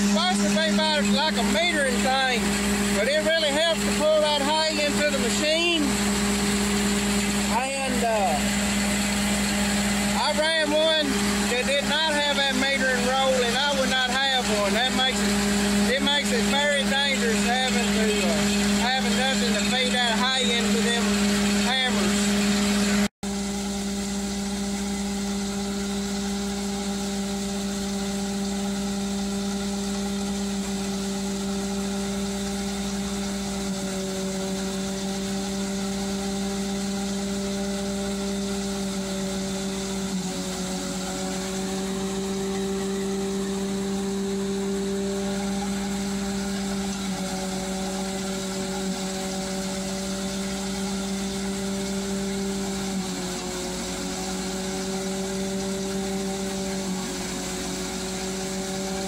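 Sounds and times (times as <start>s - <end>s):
grinder mixer machine hum: 0.0s - 59.0s.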